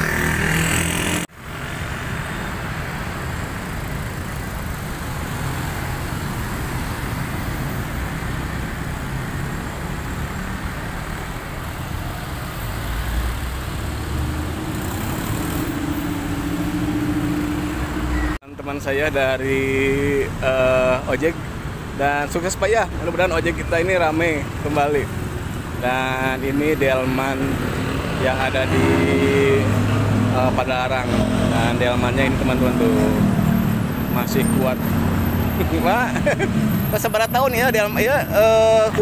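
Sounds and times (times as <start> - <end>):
street traffic passing: 0.0 - 39.0.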